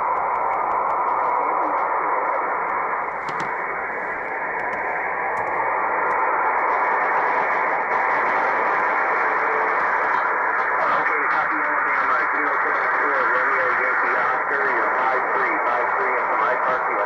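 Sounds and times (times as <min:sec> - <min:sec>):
radio band noise hiss: 0:00.0 - 0:17.0
static crackles: 0:00.0 - 0:17.0.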